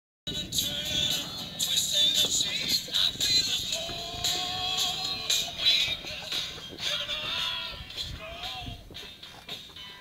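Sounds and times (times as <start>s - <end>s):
music playing: 0.3s - 10.0s.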